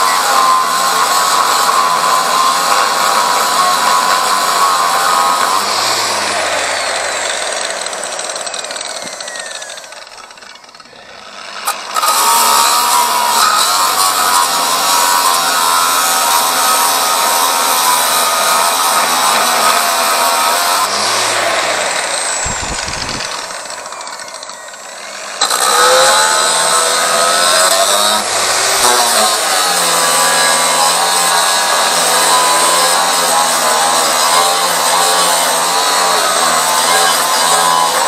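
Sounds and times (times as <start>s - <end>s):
angle grinder cutting steel: 0.0s - 38.0s
grinder spinning down whine: 0.0s - 38.0s.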